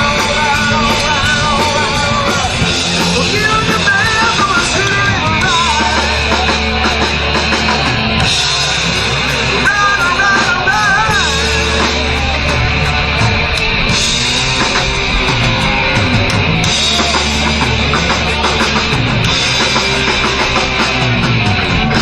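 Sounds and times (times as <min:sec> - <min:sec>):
bending lead guitar line: 0:00.0 - 0:22.0
drums: 0:00.0 - 0:22.0
low bass notes: 0:00.0 - 0:22.0
rock band playing loud: 0:00.0 - 0:22.0.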